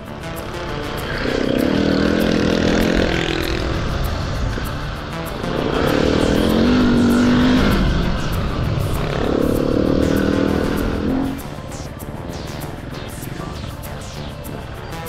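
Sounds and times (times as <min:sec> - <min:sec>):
motorcycle engine revving: 0:00.0 - 0:14.5.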